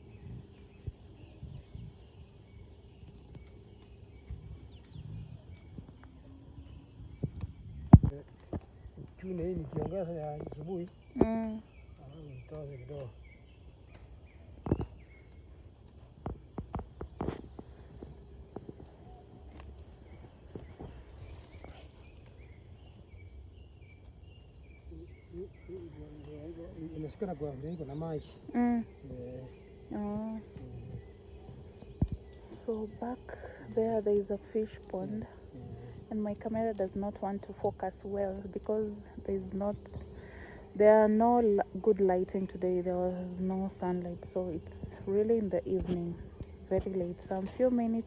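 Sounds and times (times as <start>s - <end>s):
faint bird chirps: 0.0s - 48.0s
low steady rumble: 0.0s - 48.0s.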